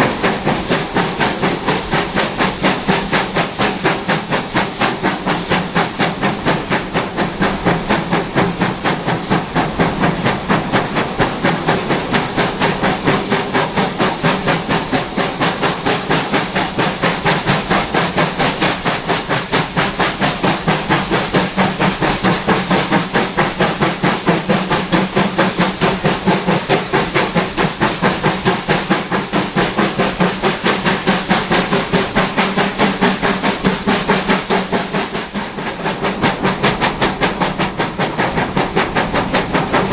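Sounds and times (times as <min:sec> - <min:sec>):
steam hiss: 0:00.0 - 0:39.9
steam locomotive chuffing: 0:00.0 - 0:39.9.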